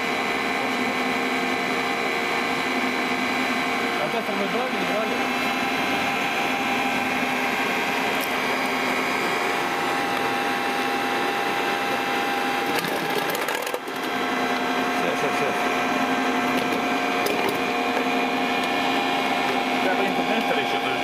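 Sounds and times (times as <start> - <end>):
motor-generator whirring and humming: 0.0 - 21.0.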